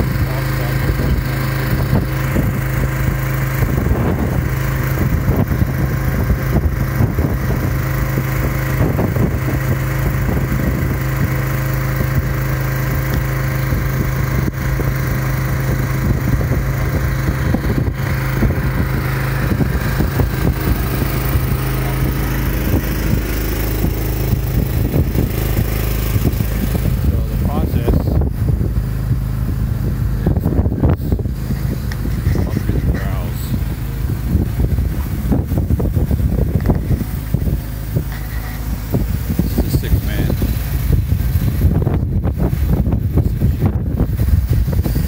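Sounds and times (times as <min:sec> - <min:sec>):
generator engine hum: 0:00.0 - 0:45.0.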